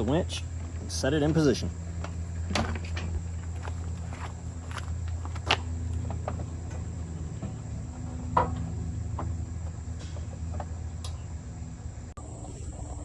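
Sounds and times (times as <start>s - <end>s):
winch knocking on steel bumper: 0.0s - 12.1s
steady low hum: 0.0s - 13.0s.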